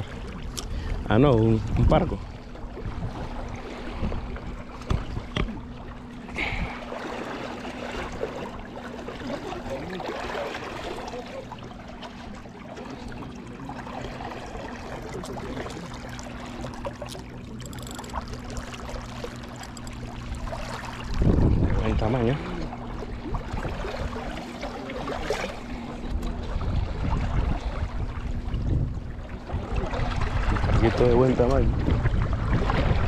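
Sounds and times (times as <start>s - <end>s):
steady low hum: 0.0s - 33.0s
water lapping: 0.0s - 33.0s.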